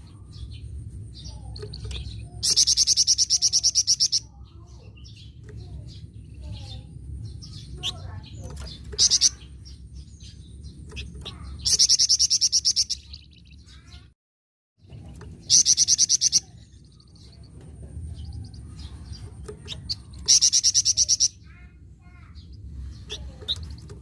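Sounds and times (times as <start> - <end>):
songbird rapid chatter: 0.0 - 14.0, 14.8 - 24.0
soft bird chirps: 0.0 - 14.1, 14.8 - 24.0.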